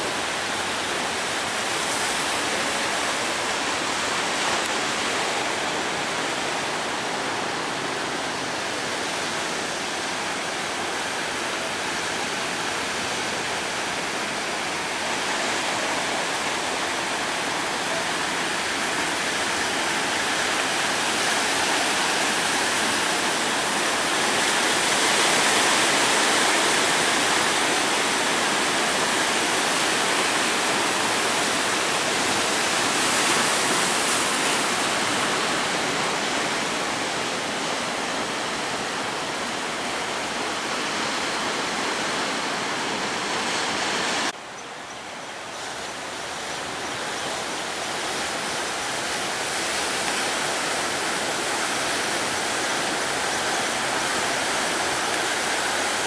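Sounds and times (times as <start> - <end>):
surf breaking on shore: 0.0 - 44.4, 45.4 - 56.0.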